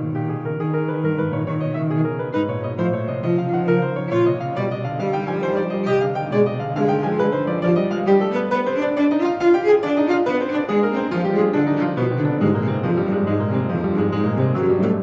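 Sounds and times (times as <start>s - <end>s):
slow classical piano and strings: 0.0s - 15.0s.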